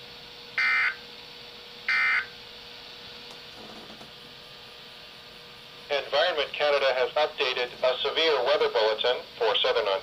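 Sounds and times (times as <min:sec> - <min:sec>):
faint hum and hiss: 0:00.0 - 0:10.0.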